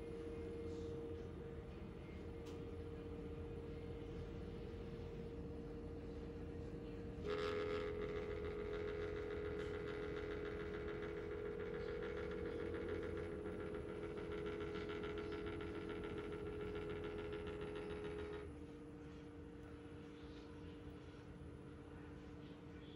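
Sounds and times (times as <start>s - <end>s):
fan humming: 0.0s - 19.9s
rattling whine of fan mechanism: 0.0s - 21.7s.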